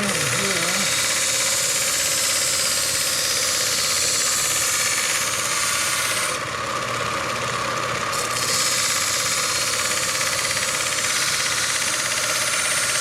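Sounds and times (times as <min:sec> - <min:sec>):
belt grinder grinding knife: 0:00.0 - 0:13.0.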